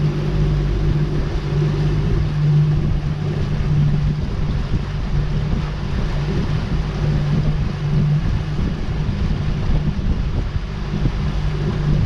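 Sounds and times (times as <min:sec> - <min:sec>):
outboard motor running: 0:00.0 - 0:12.0
water: 0:00.0 - 0:12.0
wind buffeting microphone: 0:00.0 - 0:12.0.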